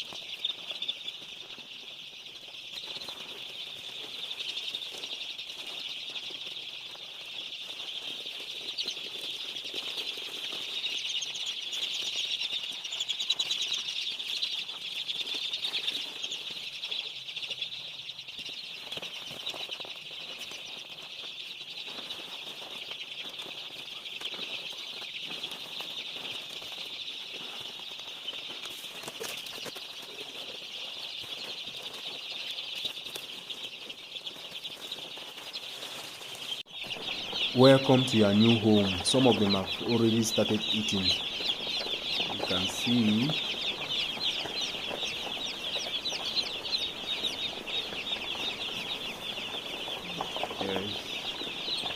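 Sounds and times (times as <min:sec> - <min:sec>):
chicks peeping: 0:00.0 - 0:51.9.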